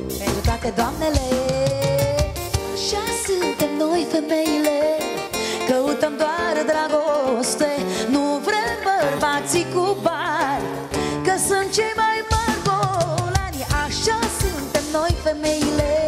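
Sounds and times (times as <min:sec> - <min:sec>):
acoustic guitar and band: 0:00.0 - 0:16.0
woman singing into microphone: 0:00.0 - 0:16.0.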